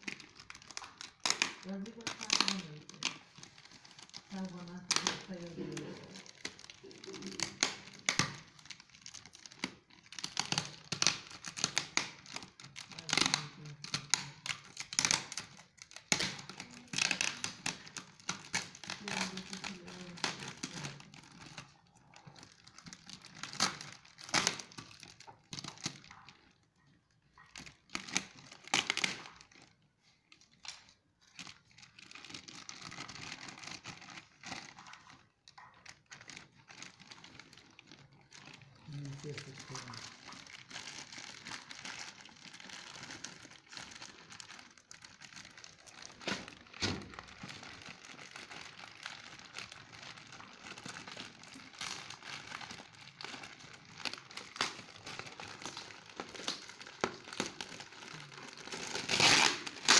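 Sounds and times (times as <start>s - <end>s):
plastic wrapping crinkling: 0.0s - 59.9s.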